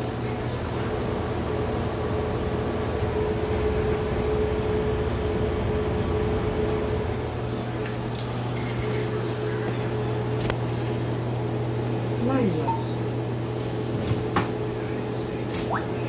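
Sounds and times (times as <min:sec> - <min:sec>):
machine hum with steady tone: 0:00.0 - 0:16.0.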